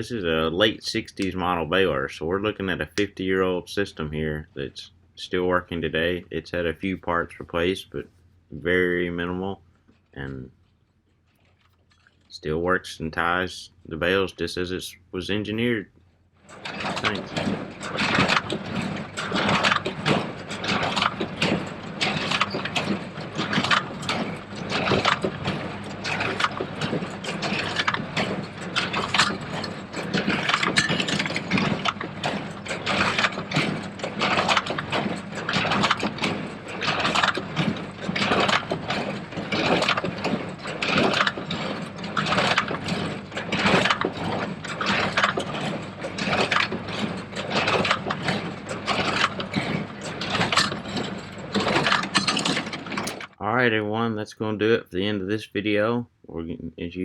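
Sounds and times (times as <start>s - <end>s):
tractor engine running: 0.0s - 55.1s
baler mechanism clattering: 5.7s - 14.4s, 15.0s - 53.4s.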